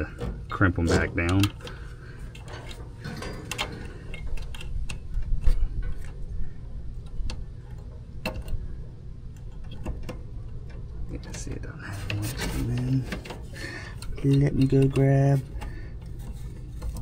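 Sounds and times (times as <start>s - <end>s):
low steady rumble: 0.0s - 17.0s
clicks of wire connectors: 0.1s - 6.2s, 9.3s - 17.0s.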